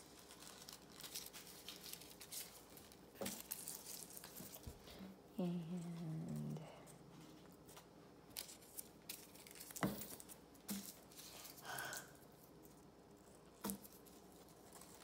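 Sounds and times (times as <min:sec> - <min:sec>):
tissue paper crinkling: 0:00.0 - 0:05.1, 0:07.1 - 0:15.0.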